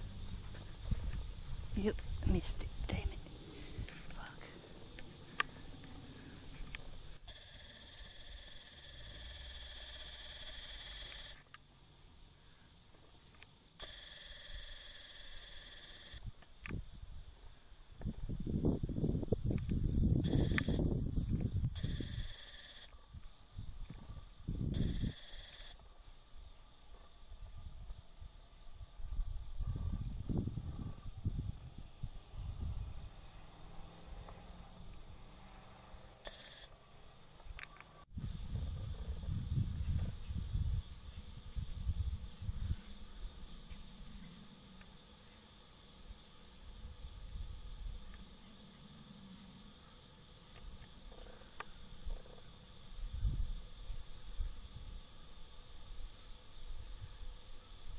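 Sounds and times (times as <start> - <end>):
insects calling: 0.0 - 57.9.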